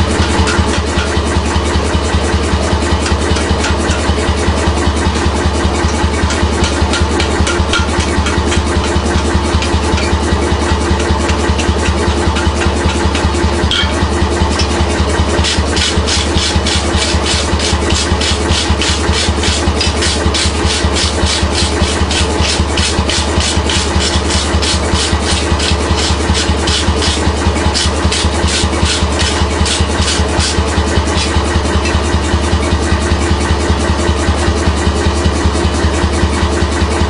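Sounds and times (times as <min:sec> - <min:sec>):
workshop machine humming: 0:00.0 - 0:37.0.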